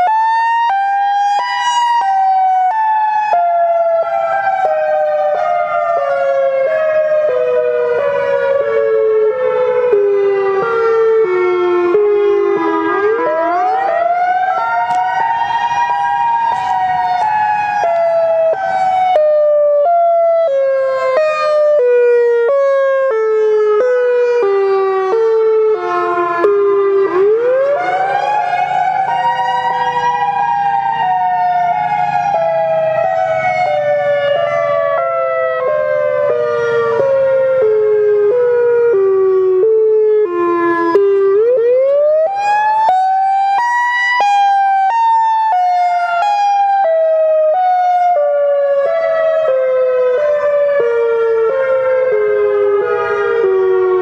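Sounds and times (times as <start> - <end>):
warning siren wailing: 0.0 - 54.0.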